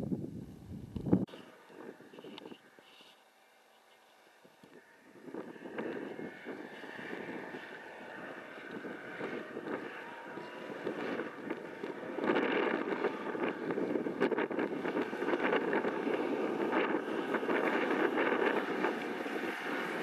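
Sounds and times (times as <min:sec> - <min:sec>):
atv engine running hard: 0:01.2 - 0:20.0.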